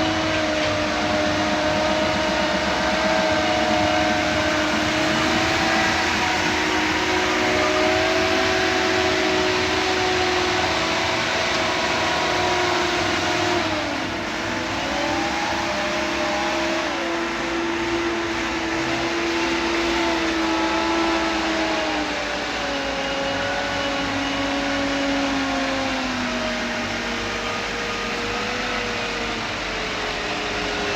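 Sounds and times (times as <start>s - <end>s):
diesel engine running: 0.0s - 30.9s
steady machine whine: 0.0s - 30.9s.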